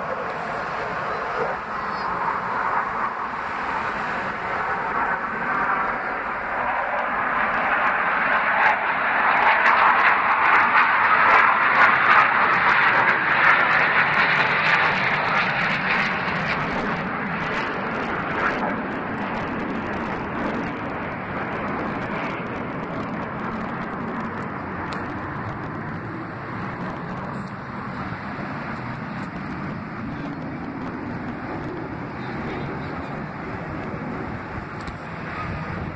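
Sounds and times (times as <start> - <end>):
fighter jets rushing: 0.0 - 35.9.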